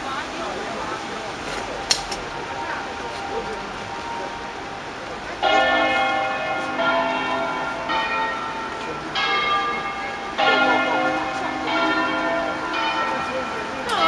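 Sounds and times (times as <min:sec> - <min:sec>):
church bells ringing: 0:02.2 - 0:14.0.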